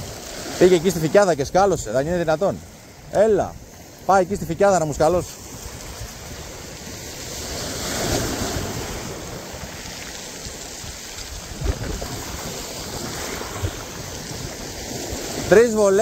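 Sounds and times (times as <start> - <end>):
sea waves washing in: 0.0 - 16.0
wind on microphone: 0.0 - 16.0.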